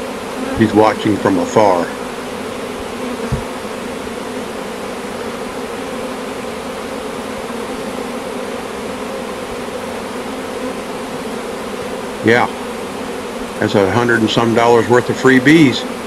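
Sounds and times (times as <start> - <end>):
swarm of honeybees buzzing: 0.0 - 16.0.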